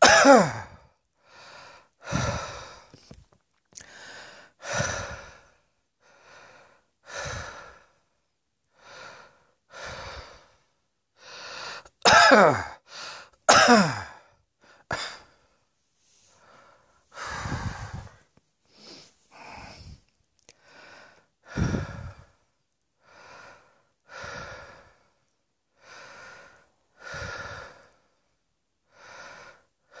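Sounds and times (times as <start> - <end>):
person breathing heavily: 0.3 - 8.1, 8.7 - 12.0, 12.8 - 13.4, 14.6 - 22.4, 23.0 - 28.2, 28.9 - 30.0.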